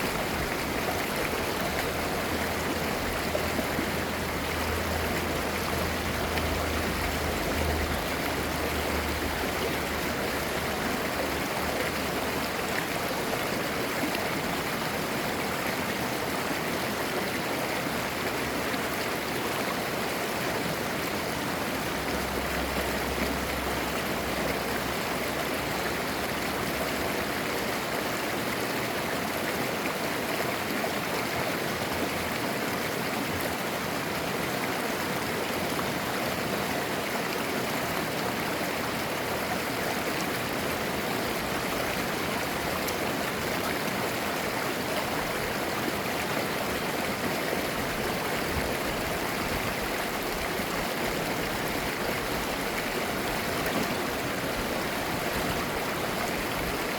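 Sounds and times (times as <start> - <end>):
mountain stream flowing: 0.0 - 56.9.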